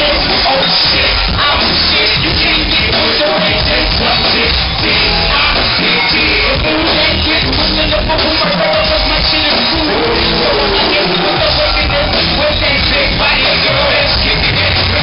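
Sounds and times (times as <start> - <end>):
live hip-hop band: 0.0 - 15.0
people singing into microphones: 0.0 - 15.0.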